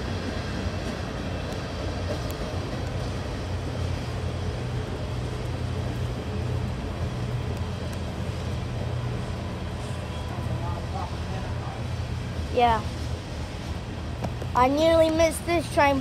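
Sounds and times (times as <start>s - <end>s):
diesel locomotive engine drone: 0.0s - 16.0s
train rolling noise: 0.0s - 16.0s.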